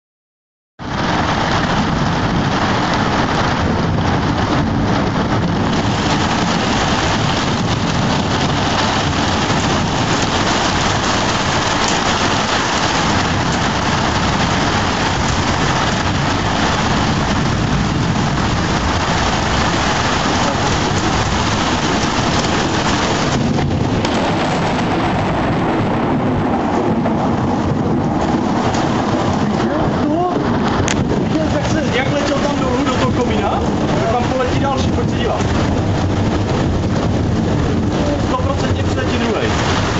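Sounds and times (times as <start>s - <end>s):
heavy rain: 0.8s - 39.9s.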